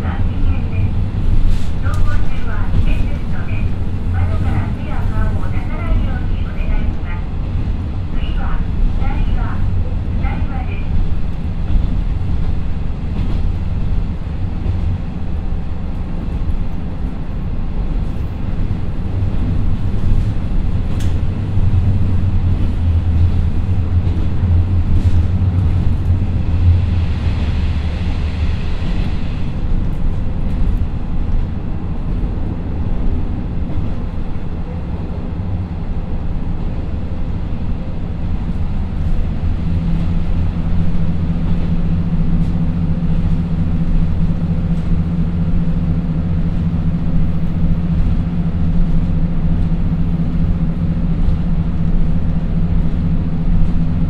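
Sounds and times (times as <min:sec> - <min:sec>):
diesel engine drone: 0:00.0 - 0:54.0
wheels rumbling on rails: 0:00.0 - 0:54.0.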